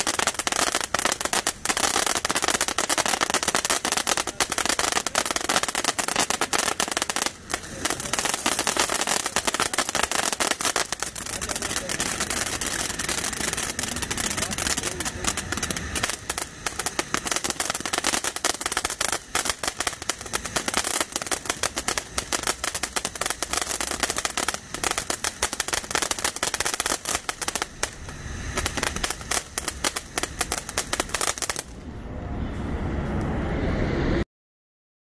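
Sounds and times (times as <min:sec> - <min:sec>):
firework fountain crackling: 0:00.0 - 0:32.4
rising rushing noise: 0:00.0 - 0:34.2.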